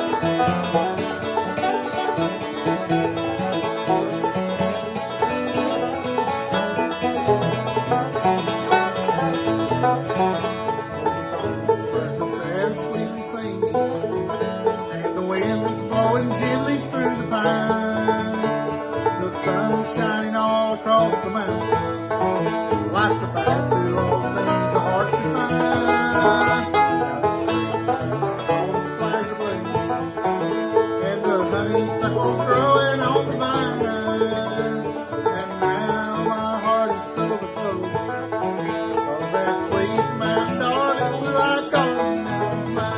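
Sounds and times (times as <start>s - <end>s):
bluegrass banjo and guitar music: 0.0s - 42.9s.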